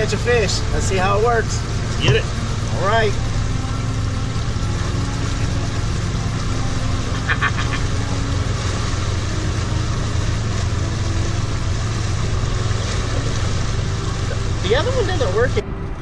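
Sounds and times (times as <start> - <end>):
hiss of wind and water: 0.0 - 16.0
outboard motor droning: 0.0 - 16.0.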